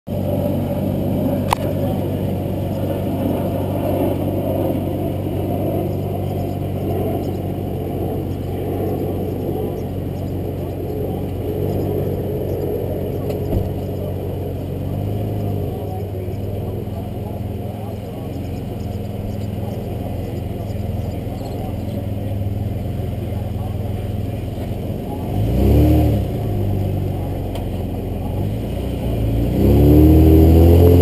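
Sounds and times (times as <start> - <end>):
car engine hum: 0.1 - 31.0
road rumble: 0.1 - 31.0.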